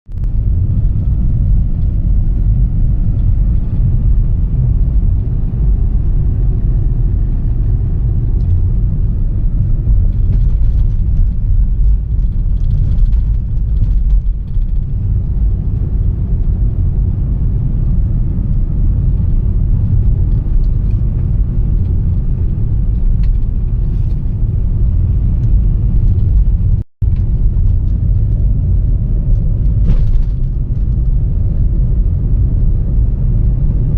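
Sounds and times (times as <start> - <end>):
car engine and road noise: 0.1 - 33.9.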